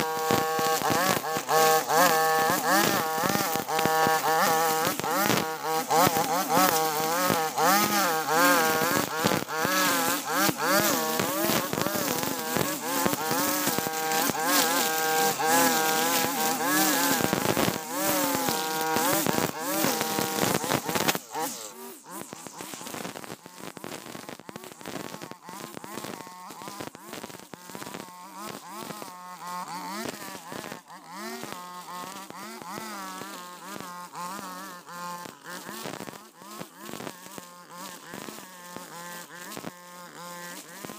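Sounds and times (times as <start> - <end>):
brush cutter engine revving: 0.0 - 40.9.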